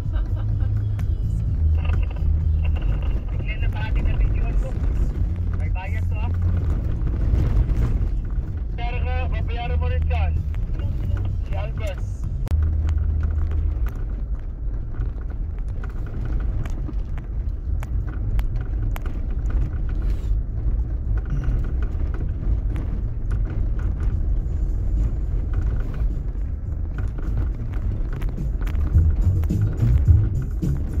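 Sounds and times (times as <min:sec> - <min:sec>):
vehicle rumbling on gravel: 0:00.0 - 0:31.0
gravel ticks: 0:00.1 - 0:31.0.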